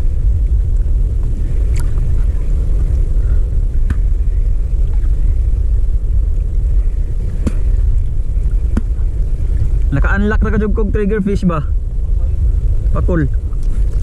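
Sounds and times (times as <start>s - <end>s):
choppy water: 0.0s - 14.0s
wind buffeting microphone: 0.0s - 14.0s.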